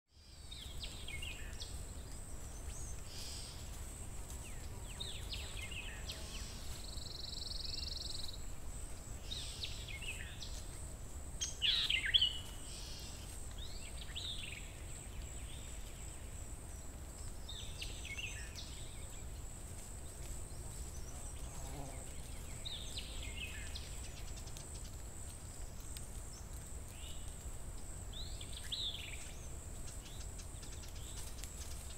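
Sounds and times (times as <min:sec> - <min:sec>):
birds singing and calling: 0:00.2 - 0:10.7, 0:11.4 - 0:19.4, 0:20.0 - 0:25.0, 0:28.1 - 0:31.9.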